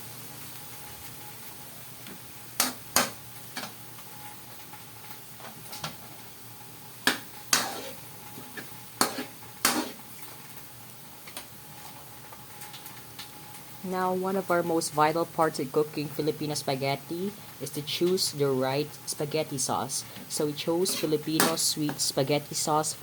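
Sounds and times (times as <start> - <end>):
meat sizzling: 0.1 - 23.0.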